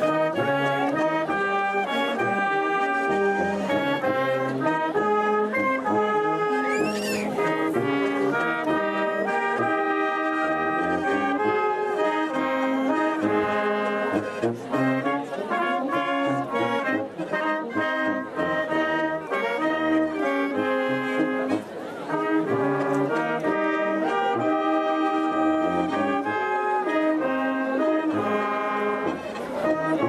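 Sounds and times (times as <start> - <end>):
accordion: 0.0 - 30.0
brass band playing: 0.0 - 30.0.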